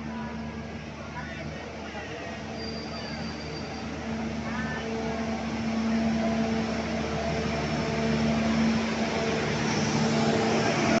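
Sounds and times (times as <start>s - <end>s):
train rumble and drone: 0.0s - 11.0s.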